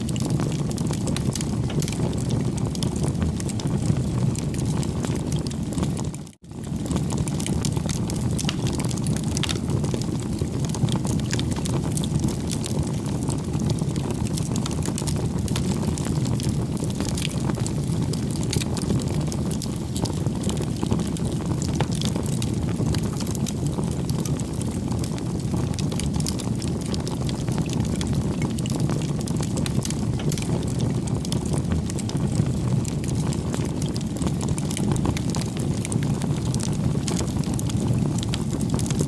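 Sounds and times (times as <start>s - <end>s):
fire crackling and popping: 0.0s - 39.0s
low rush of flames: 0.0s - 39.0s.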